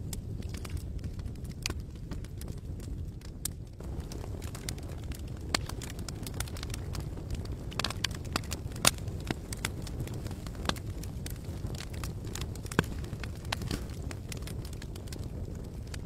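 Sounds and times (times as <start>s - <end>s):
campfire crackling: 0.0s - 16.0s
steady low rumble: 0.0s - 16.0s.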